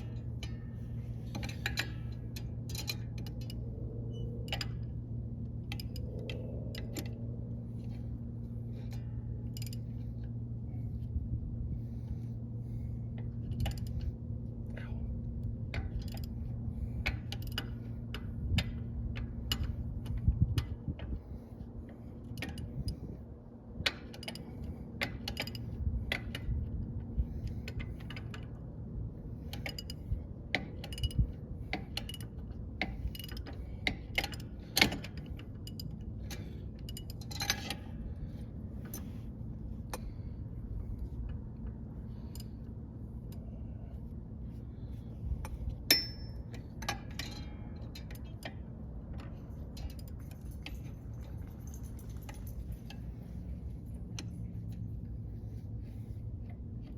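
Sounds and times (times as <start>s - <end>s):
low hum: 0.0s - 56.9s.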